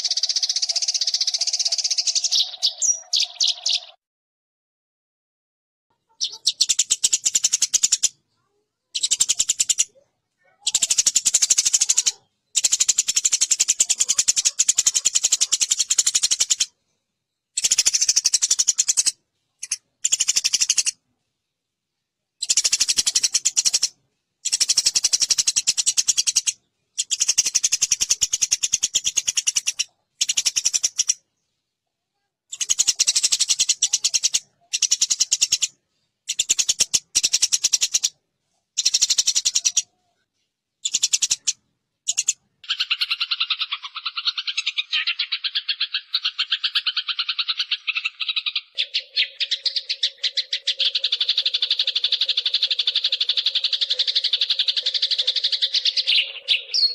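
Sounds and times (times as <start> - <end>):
sparrows harsh chattering: 0.0 - 4.0, 5.9 - 16.8, 17.5 - 21.0, 22.4 - 31.6, 32.5 - 40.2, 40.8 - 56.9.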